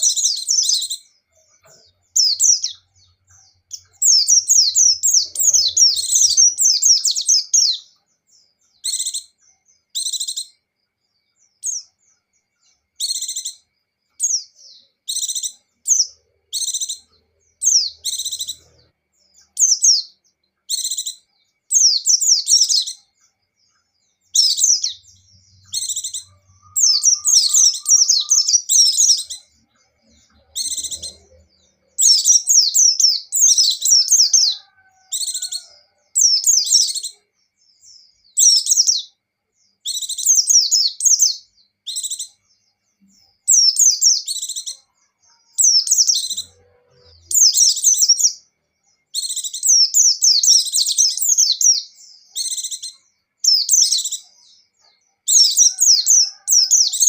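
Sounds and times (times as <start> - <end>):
bird twittering: 0.0 - 10.6, 11.6 - 42.4, 49.1 - 54.5.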